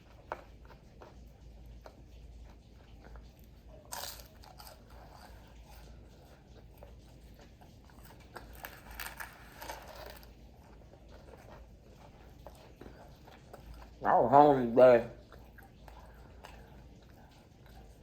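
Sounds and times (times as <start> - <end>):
person chewing crispy food: 0.0 - 18.0.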